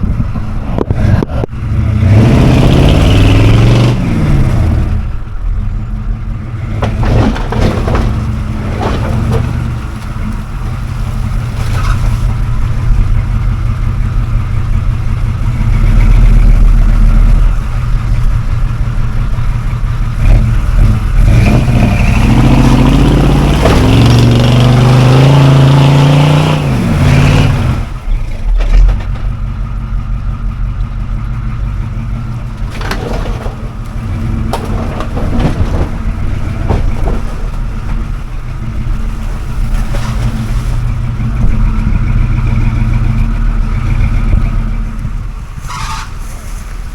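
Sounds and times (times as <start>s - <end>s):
off-road vehicle engine revving: 0.0s - 46.7s.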